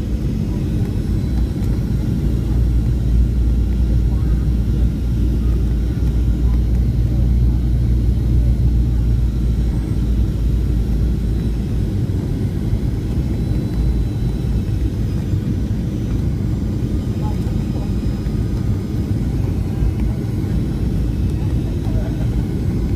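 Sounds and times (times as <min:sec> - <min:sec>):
airliner cabin engine rumble: 0:00.0 - 0:22.9.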